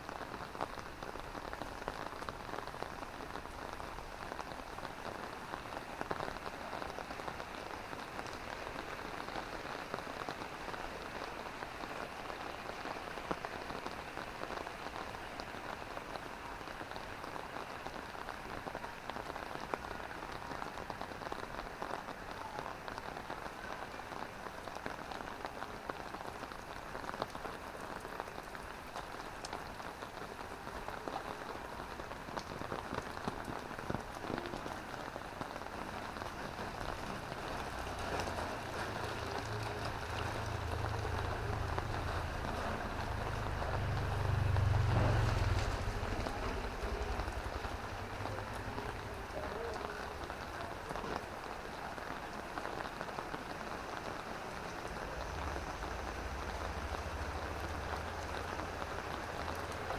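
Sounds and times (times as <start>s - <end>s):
drizzling rain pattering: 0.0s - 59.9s.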